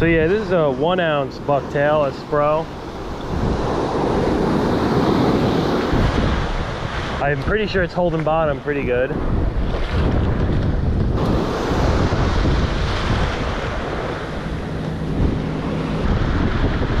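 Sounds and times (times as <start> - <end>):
ocean surf washing: 0.0 - 17.0
wind buffeting microphone: 0.0 - 17.0.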